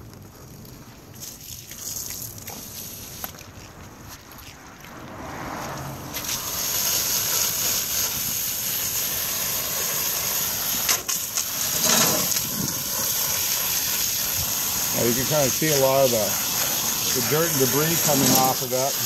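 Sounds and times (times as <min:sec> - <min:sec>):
hose spraying water on metal screen: 0:00.0 - 0:04.5, 0:06.1 - 0:19.0.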